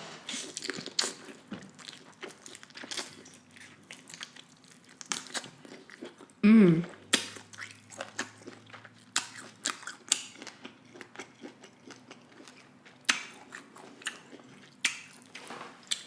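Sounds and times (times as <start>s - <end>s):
person chewing food: 0.3s - 16.0s.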